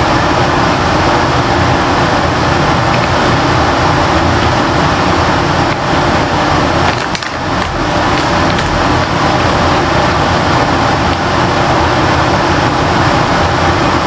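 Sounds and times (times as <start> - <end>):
loud rushing noise: 0.0 - 14.0.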